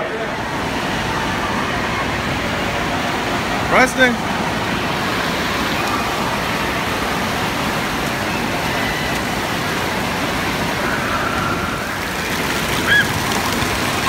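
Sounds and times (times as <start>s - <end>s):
echoing indoor crowd din: 0.0s - 14.0s
water jets splashing: 0.0s - 14.0s.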